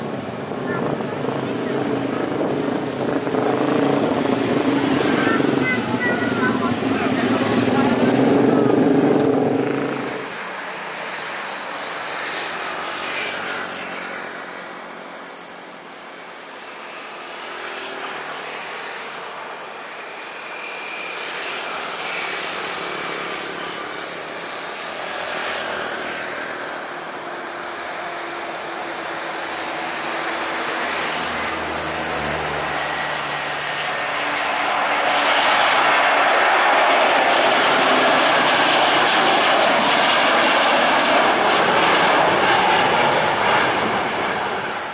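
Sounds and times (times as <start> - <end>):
distant jet engine roar: 0.0 - 44.9.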